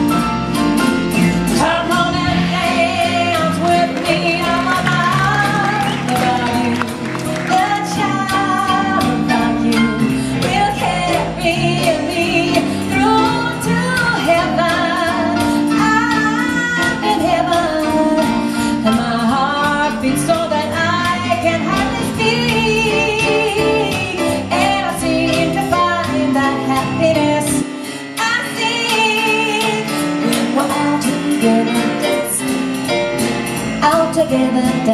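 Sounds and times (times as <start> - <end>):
upright double bass: 0.0 - 27.7, 28.7 - 34.9
drums: 0.0 - 34.9
woman singing: 1.2 - 32.6, 33.8 - 34.9.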